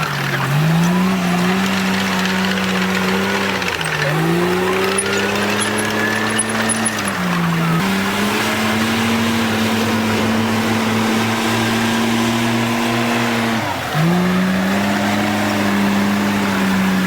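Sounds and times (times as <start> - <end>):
bulldozer diesel engine under load: 0.0 - 17.0.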